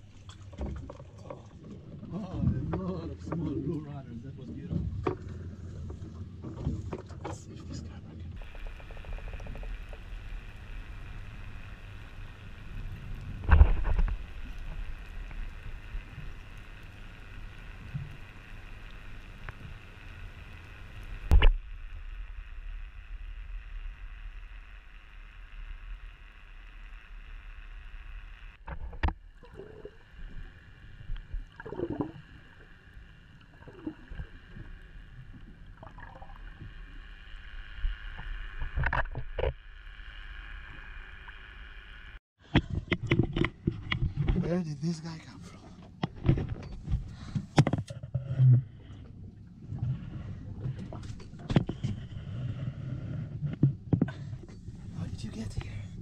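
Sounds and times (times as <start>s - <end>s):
underwater rumble and hum: 0.0s - 56.0s.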